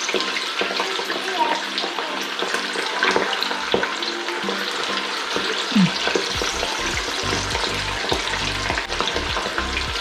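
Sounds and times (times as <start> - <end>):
oil sizzling in a pan: 0.0 - 10.0.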